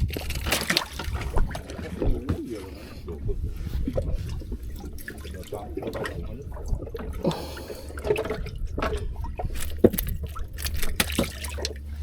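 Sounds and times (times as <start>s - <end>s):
steady low hum: 0.0s - 12.0s
water splashing against a boat: 0.0s - 12.0s.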